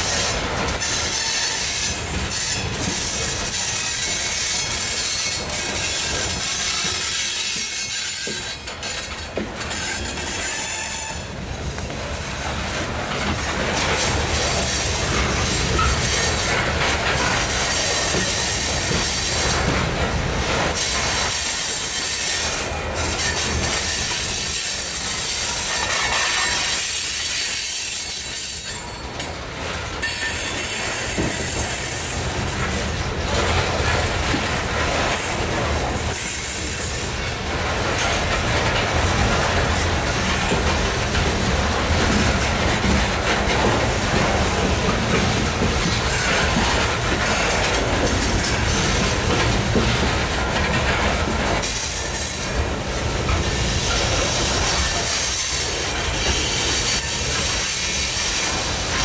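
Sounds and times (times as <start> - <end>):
steel wheels rumbling on rails: 0.0 - 59.0.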